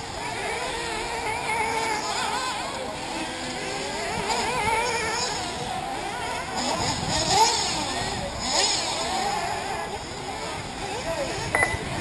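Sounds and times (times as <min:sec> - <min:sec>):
rc car engines buzzing: 0:00.0 - 0:12.0.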